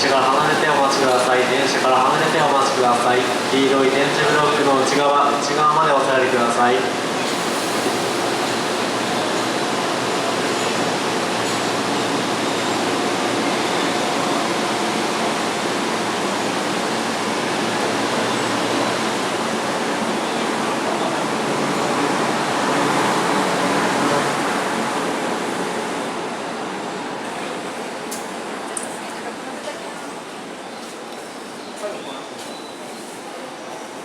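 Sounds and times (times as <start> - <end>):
electric train rushing: 0.0 - 28.6.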